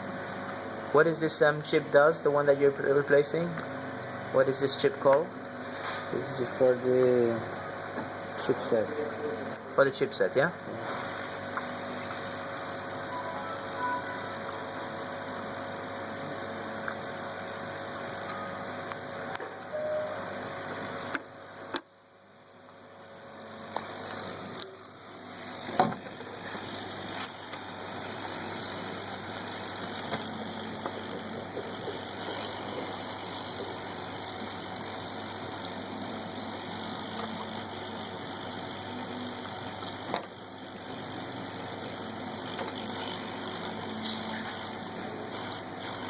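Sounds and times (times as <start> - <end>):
hot-air station fan hissing: 0.0 - 46.0.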